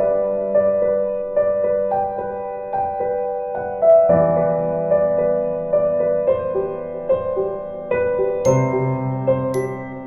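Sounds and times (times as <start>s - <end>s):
slow piano music: 0.0s - 10.0s.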